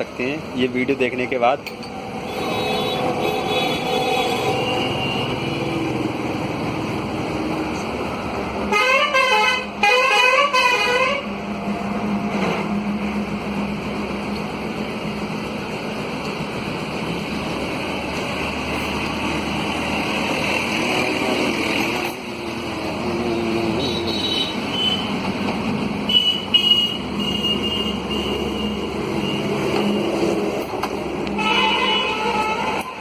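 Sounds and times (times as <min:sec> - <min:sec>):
road traffic passing: 0:00.0 - 0:33.0.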